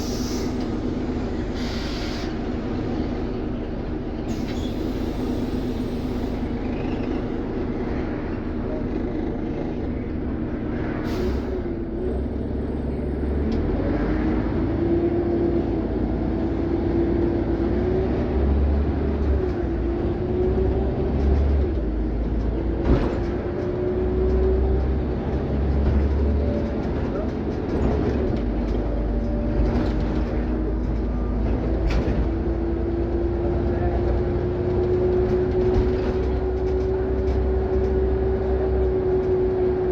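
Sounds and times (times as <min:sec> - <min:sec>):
bus engine rumbling: 0:00.0 - 0:39.9.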